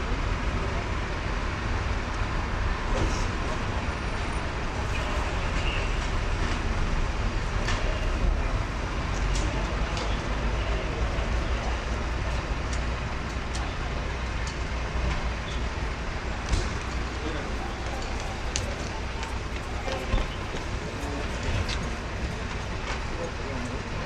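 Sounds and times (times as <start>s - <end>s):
vehicle engines and traffic rumble: 0.0s - 24.0s.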